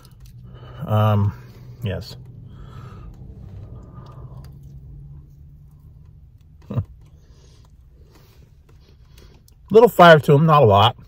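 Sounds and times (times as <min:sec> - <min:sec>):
low hum: 0:00.0 - 0:09.2
chewing fried food: 0:00.0 - 0:09.7.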